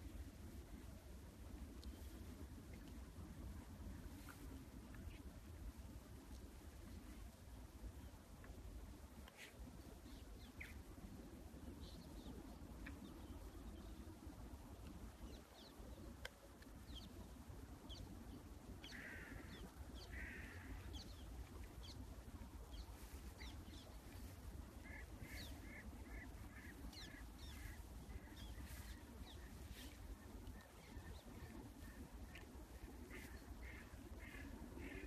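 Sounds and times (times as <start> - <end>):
low steady rumble: 0.0 - 35.0.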